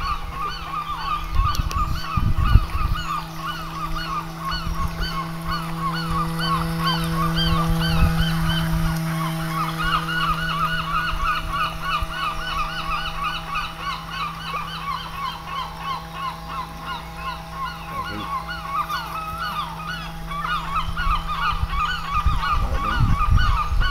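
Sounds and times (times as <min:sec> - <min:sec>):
geese honking: 0:00.0 - 0:23.9
steady low hum: 0:00.0 - 0:23.9.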